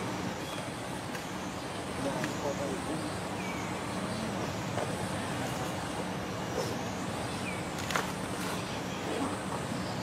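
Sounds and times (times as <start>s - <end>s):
distant road traffic rumble: 0.0s - 10.0s
faint steady hum: 0.0s - 10.0s.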